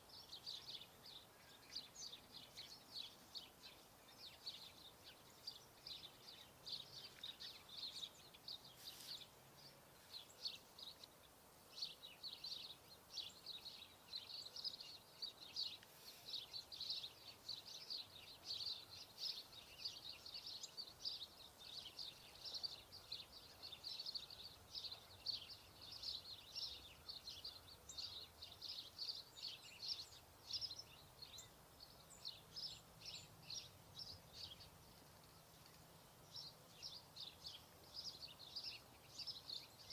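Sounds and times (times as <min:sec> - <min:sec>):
faint outdoor background noise: 0:00.0 - 0:39.9
small birds chirping: 0:00.0 - 0:39.9.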